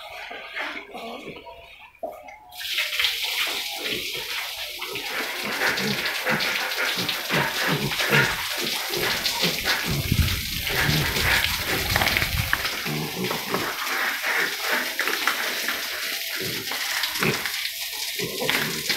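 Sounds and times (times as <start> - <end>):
hose spraying water on concrete: 2.5 - 18.9.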